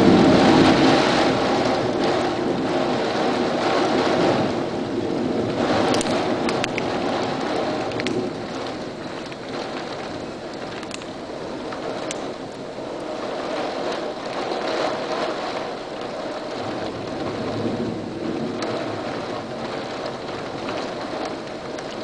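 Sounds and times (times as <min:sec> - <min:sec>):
strong storm wind gusting: 0:00.0 - 0:22.0.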